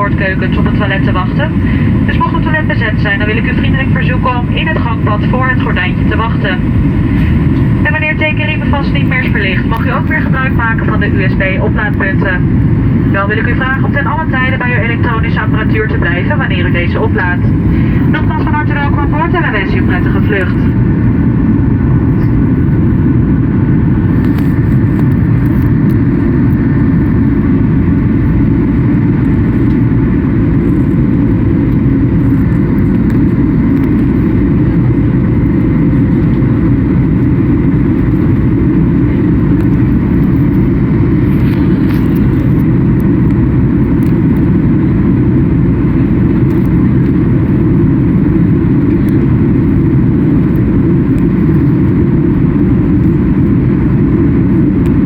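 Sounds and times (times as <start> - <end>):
jet engine rumble inside cabin: 0.0 - 55.0.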